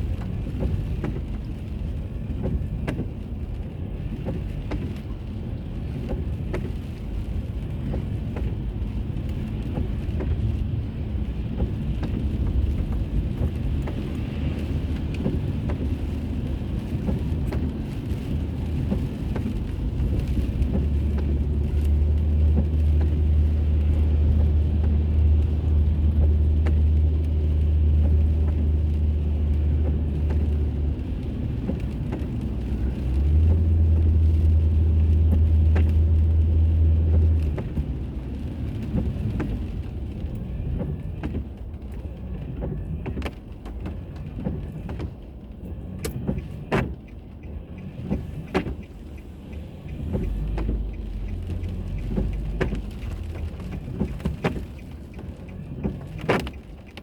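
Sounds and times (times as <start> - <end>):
tyres and engine rumble: 0.0 - 57.0.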